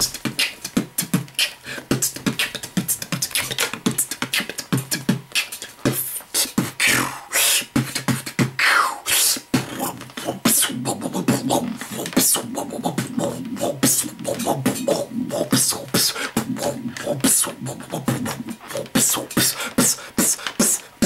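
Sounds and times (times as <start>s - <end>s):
beatboxing into a microphone: 0.0s - 21.0s.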